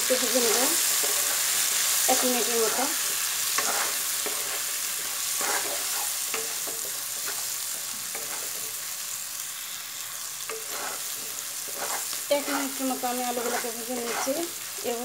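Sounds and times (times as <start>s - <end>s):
potatoes and onions frying: 0.0s - 15.0s
wooden spatula scraping a pan: 0.1s - 8.9s, 10.0s - 15.0s.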